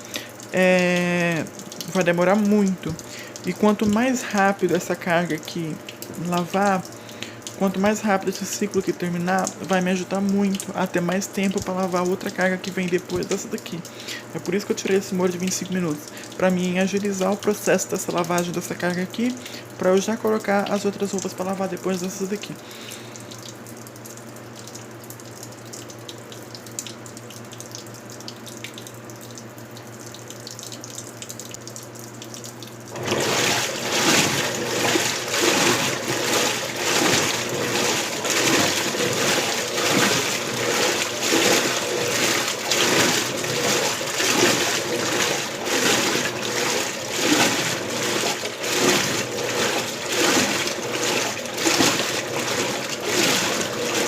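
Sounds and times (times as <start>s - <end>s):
rhythmic sloshing of water: 0.0s - 54.0s
washing machine filling with water: 0.0s - 54.0s.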